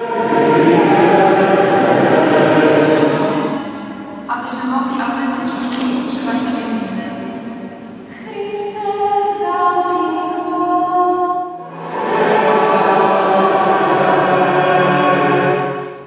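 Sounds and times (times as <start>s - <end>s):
choir singing a chant: 0.0s - 16.0s.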